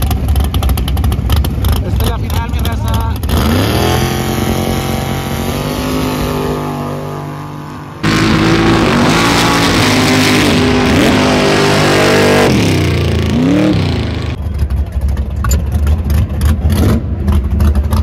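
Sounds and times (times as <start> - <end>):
engine at high revs: 1.3 - 14.4, 16.1 - 18.0
truck engine revving hard: 1.6 - 14.4, 16.0 - 18.0.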